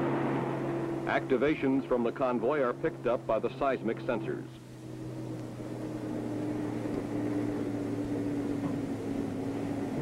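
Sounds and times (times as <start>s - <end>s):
truck engines droning: 0.0s - 10.0s.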